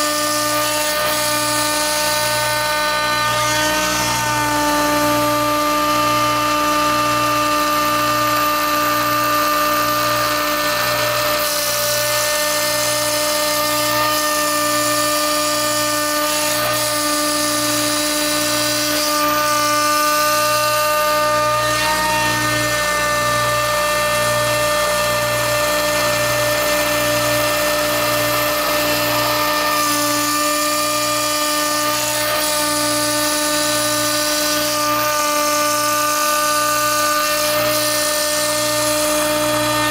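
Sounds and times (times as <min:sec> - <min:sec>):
hiss of cutting acrylic: 0:00.0 - 0:39.9.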